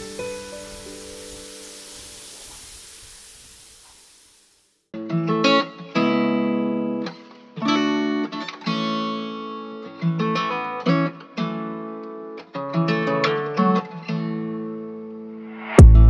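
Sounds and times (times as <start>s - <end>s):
acoustic guitar music: 0.0s - 1.9s, 4.9s - 16.0s.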